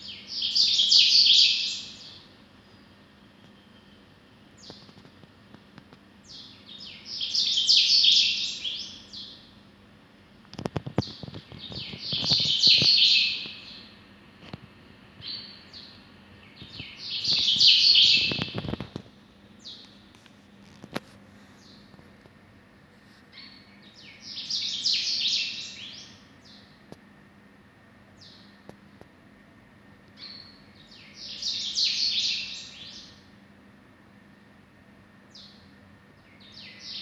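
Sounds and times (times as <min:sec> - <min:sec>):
small birds chirping: 0:00.0 - 0:09.7, 0:10.4 - 0:22.3, 0:23.1 - 0:27.0, 0:28.1 - 0:29.1, 0:30.0 - 0:33.4, 0:35.2 - 0:37.0.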